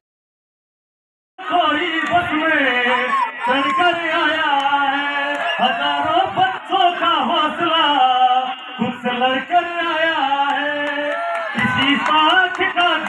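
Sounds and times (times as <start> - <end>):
man singing into microphone: 1.4 - 13.0.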